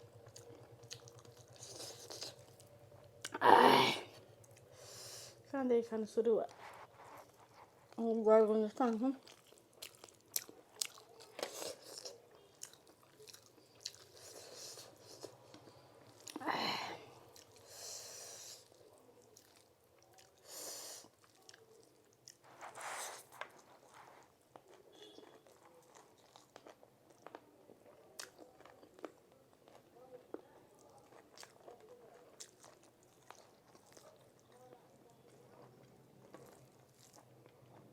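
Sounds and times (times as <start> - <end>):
person chewing food: 0.0 - 3.5, 8.8 - 37.9.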